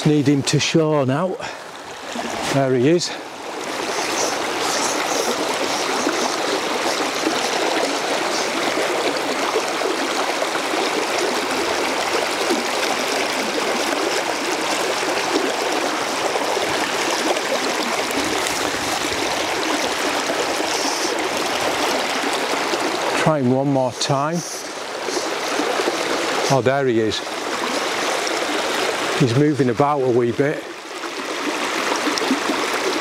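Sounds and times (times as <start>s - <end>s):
river rushing over stones: 0.0s - 33.0s.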